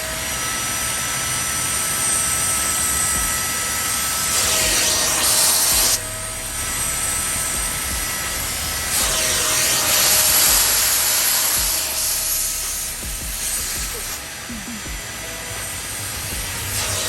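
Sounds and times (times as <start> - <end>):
vacuum motor whine: 0.0 - 17.0.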